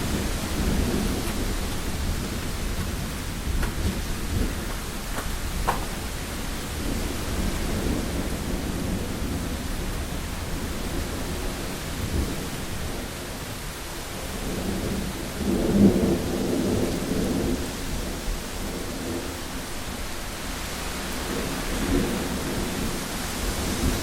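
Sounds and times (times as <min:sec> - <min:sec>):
rolling thunder rumble: 0:00.0 - 0:13.4, 0:14.1 - 0:24.0
heavy rain on a window: 0:00.0 - 0:24.0.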